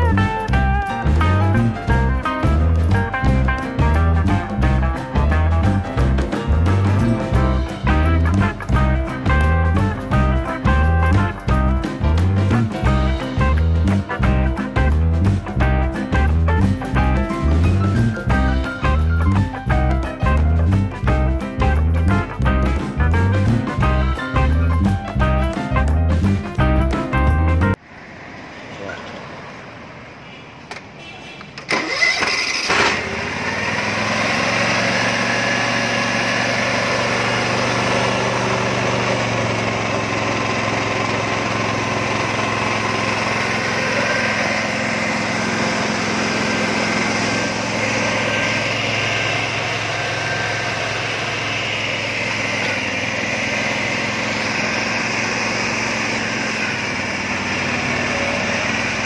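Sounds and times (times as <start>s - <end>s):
small petrol engine starting and running: 0.0s - 26.8s, 31.6s - 59.0s.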